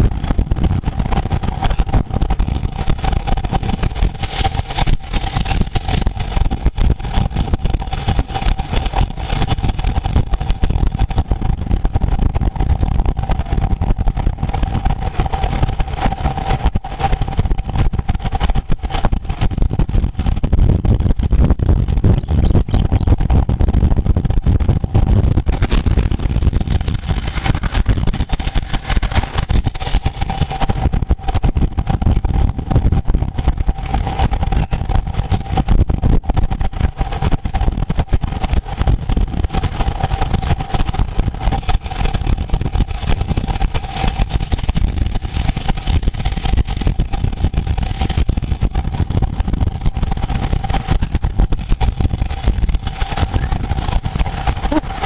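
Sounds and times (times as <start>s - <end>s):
road rumble: 0.0s - 55.0s
steady humming tone: 0.0s - 55.0s
wind rushing over microphone: 0.0s - 55.0s.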